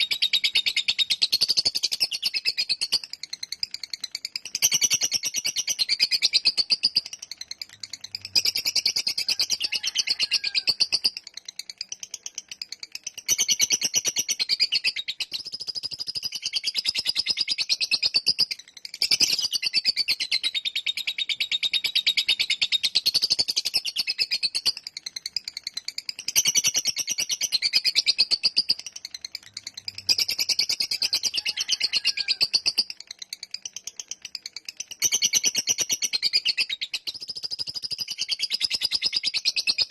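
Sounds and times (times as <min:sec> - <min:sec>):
lovebird chattering trill: 0:00.0 - 0:11.2, 0:11.8 - 0:39.9.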